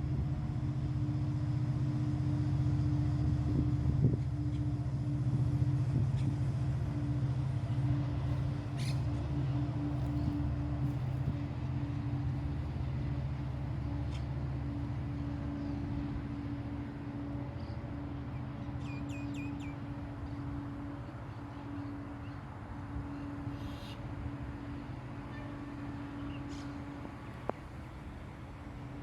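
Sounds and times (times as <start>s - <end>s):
low motor hum: 0.0s - 23.5s.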